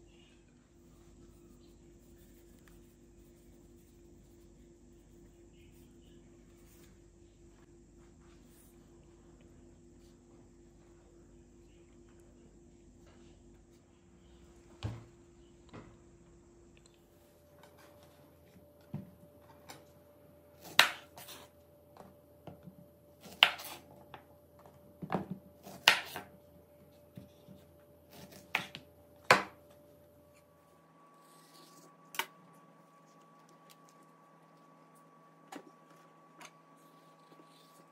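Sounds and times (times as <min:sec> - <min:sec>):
faint steady hum: 0:00.0 - 0:37.9.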